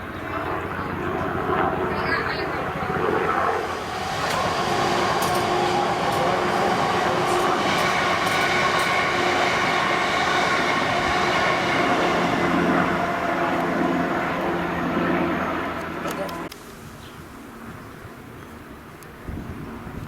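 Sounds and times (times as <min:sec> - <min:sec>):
helicopter rotor and engine: 0:00.0 - 0:16.6.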